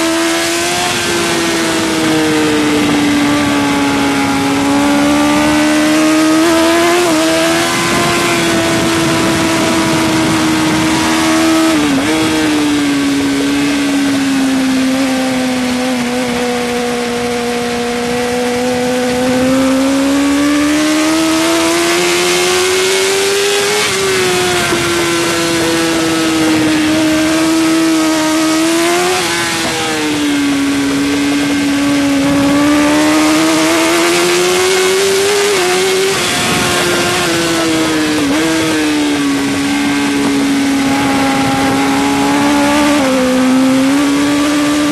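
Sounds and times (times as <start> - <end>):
motorcycle engine running hard: 0.0 - 44.9
rushing wind hiss: 0.1 - 44.9.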